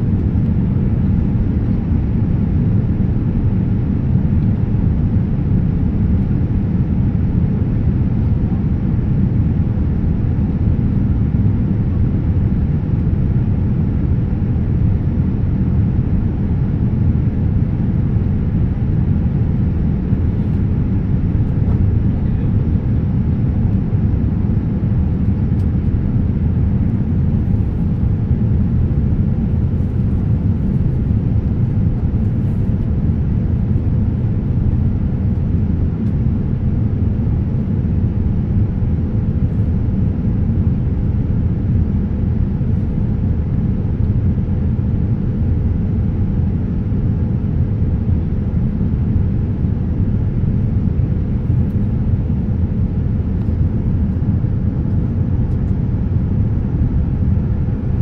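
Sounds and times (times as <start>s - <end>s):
airliner cabin rumble: 0.0s - 58.0s
faint steady hum: 0.0s - 58.0s.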